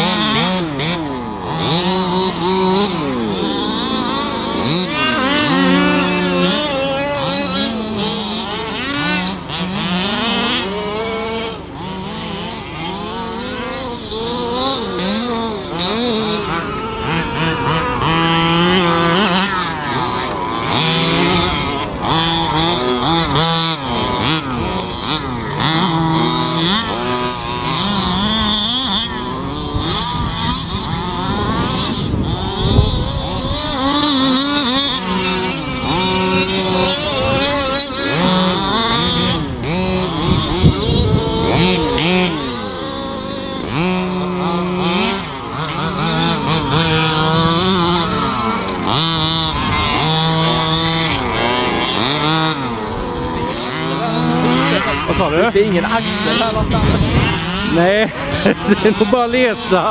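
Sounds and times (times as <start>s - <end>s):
radio-controlled car engines revving: 0.0s - 59.9s.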